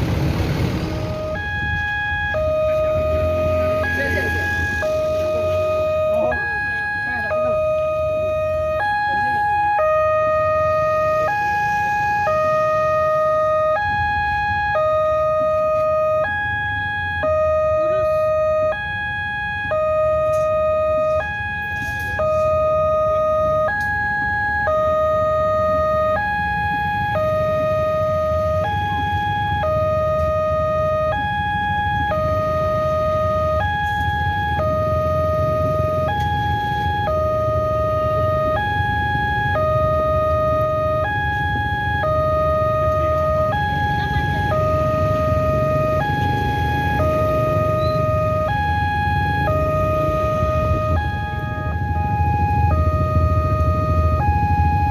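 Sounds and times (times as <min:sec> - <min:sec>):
low traffic rumble: 0:00.0 - 0:54.9
two-tone crossing alarm: 0:00.8 - 0:54.9.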